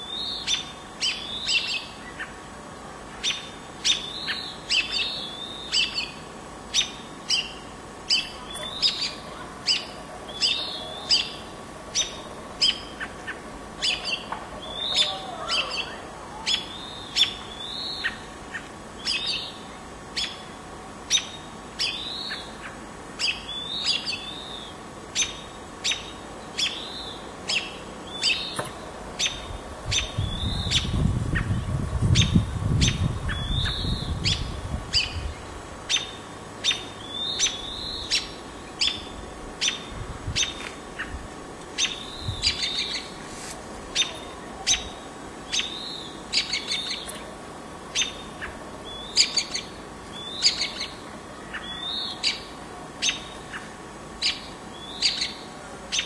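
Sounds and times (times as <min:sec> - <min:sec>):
small bird chirping alarm calls: 0:00.0 - 0:02.4, 0:03.1 - 0:41.2, 0:41.8 - 0:43.2, 0:43.9 - 0:47.2, 0:47.9 - 0:56.0.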